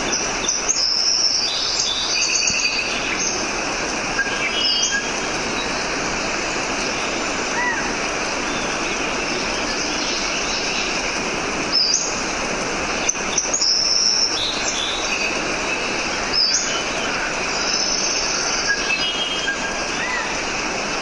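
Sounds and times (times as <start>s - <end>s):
steady rushing background noise: 0.0s - 21.0s.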